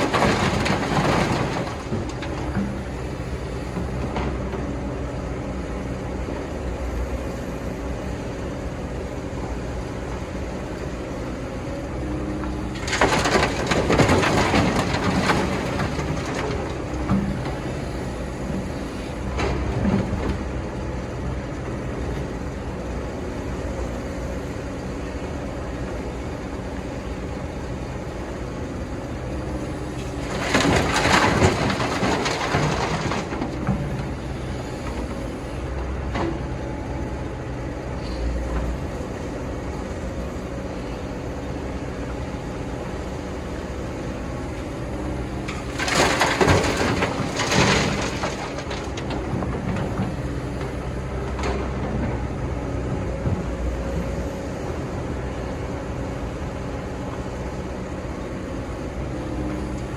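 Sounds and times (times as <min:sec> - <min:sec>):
excavator engine running: 0:00.0 - 0:59.9.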